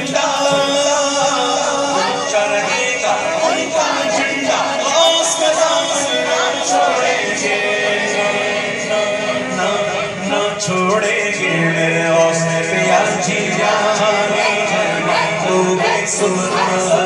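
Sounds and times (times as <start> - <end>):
man singing into a microphone: 0.0 - 17.0
voices singing like a choir: 0.0 - 17.0.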